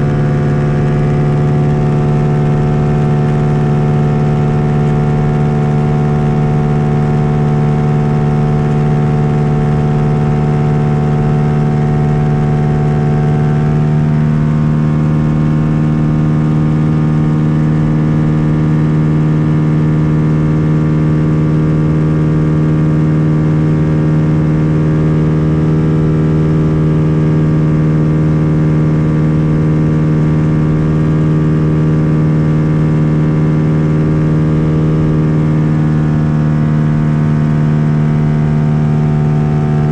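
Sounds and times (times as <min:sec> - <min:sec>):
propeller aircraft engine drone: 0:00.0 - 0:39.9.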